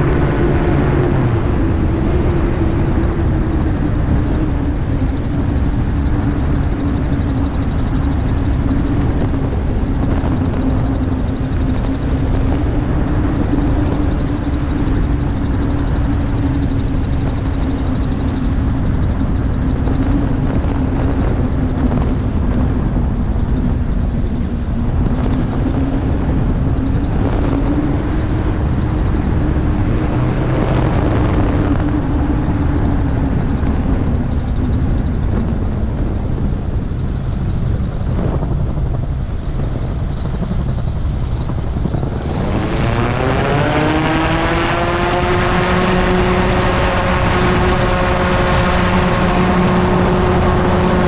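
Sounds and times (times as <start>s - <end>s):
engine and propeller drone: 0.0s - 51.0s
wind rush on microphone: 0.0s - 51.0s.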